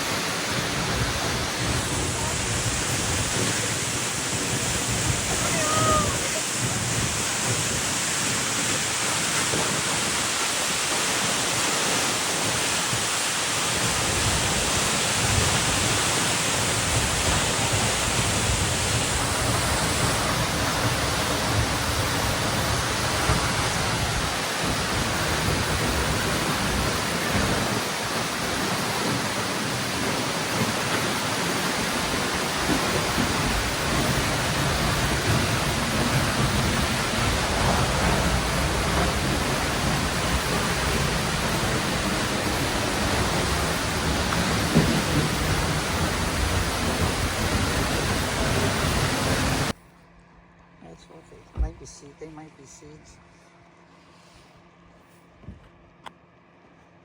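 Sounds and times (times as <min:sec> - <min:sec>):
waterfall rushing: 0:00.0 - 0:49.7.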